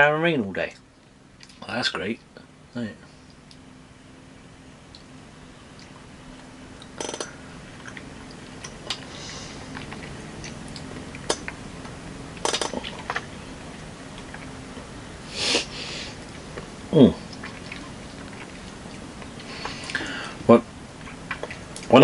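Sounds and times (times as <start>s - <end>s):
distant lawnmower humming: 1.0s - 22.0s.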